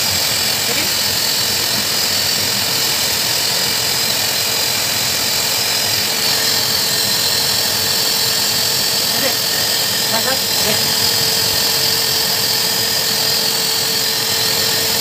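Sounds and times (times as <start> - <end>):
pet dryer motor whine: 0.0 - 15.0.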